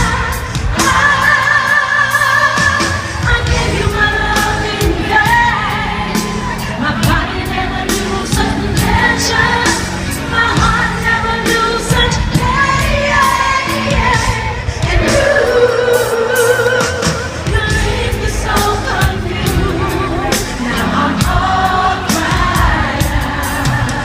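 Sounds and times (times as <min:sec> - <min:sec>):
band with drum beat: 0:00.0 - 0:24.0
woman singing pop: 0:00.0 - 0:24.0.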